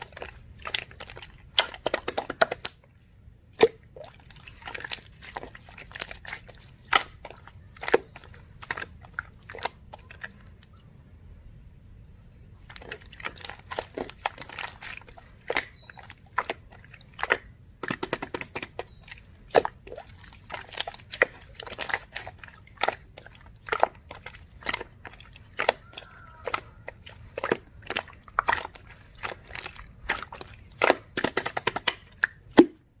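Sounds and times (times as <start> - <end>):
slime squished by hand: 0.0 - 2.8, 3.5 - 10.6, 12.7 - 33.0.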